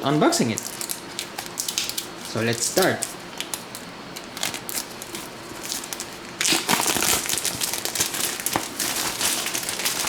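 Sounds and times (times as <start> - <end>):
wrapping crinkling: 0.0 - 10.0.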